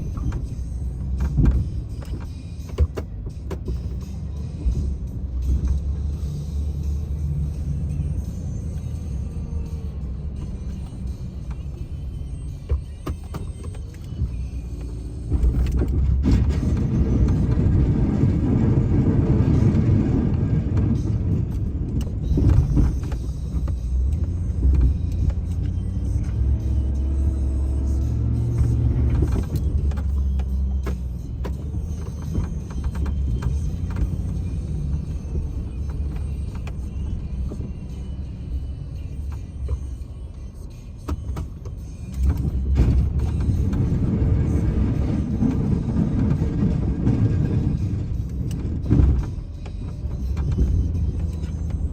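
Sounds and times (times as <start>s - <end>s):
vehicle engine rumbling: 0.0s - 51.9s.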